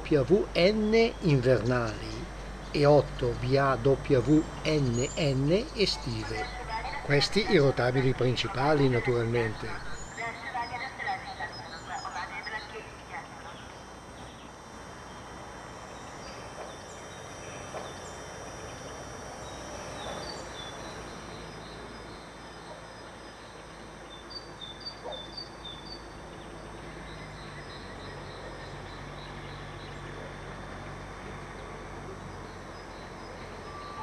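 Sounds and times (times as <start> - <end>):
birds chirping: 0.0 - 34.0
diesel locomotive engine hum: 0.0 - 34.0.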